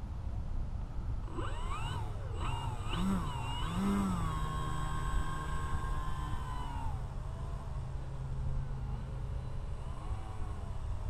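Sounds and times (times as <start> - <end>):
model plane motor whine: 1.1 - 11.0.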